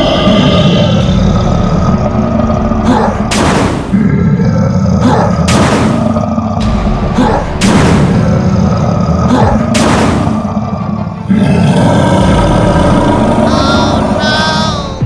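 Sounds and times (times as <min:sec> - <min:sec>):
cartoon monster roaring: 0:00.0 - 0:03.3, 0:03.9 - 0:07.5, 0:08.1 - 0:15.0.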